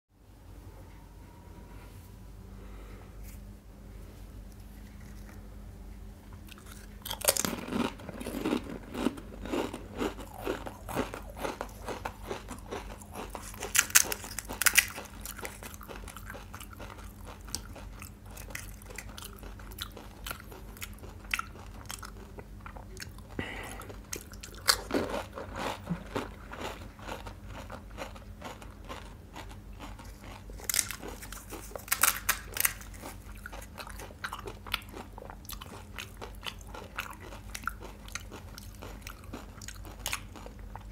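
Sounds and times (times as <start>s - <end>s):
crunchy food chewing: 4.5s - 5.5s, 6.3s - 40.9s.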